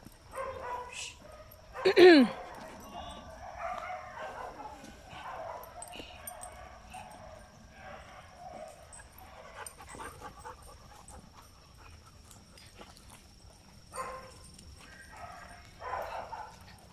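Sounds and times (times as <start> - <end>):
dogs panting: 0.0 - 16.9.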